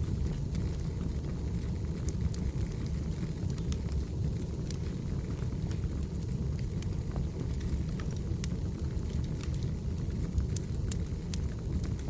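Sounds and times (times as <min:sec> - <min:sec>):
fire crackling and popping: 0:00.0 - 0:12.0
low rumble of fire: 0:00.0 - 0:12.0.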